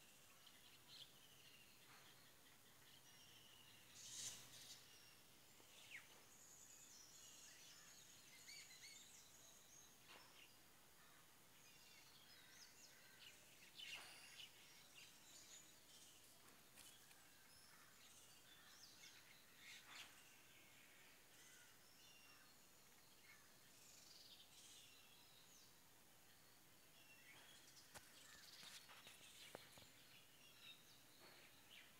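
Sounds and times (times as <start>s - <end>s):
birds chirping: 0.0s - 31.9s
low steady outdoor hiss: 0.0s - 31.9s.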